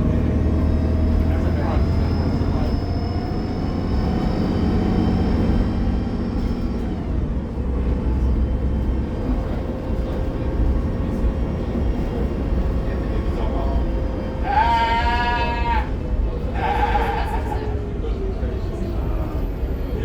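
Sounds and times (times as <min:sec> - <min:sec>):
bus engine rumble with whine: 0:00.0 - 0:20.0.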